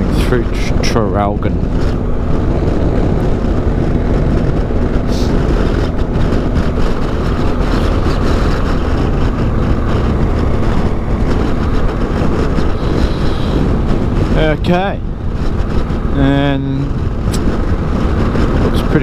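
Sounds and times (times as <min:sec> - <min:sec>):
motorcycle engine cruising: 0:00.0 - 0:19.0
tyre noise on wet road: 0:00.0 - 0:19.0
wind rush: 0:00.0 - 0:19.0.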